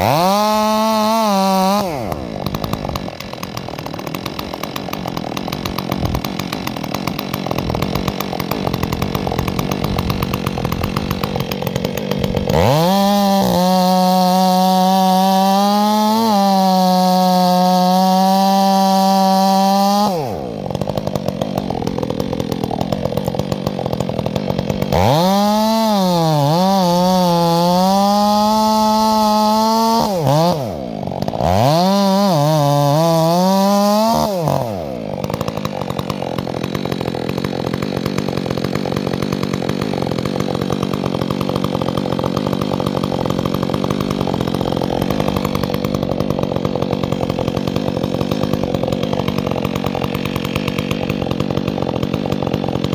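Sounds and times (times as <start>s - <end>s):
chainsaw engine revving and idling: 0.0s - 52.9s.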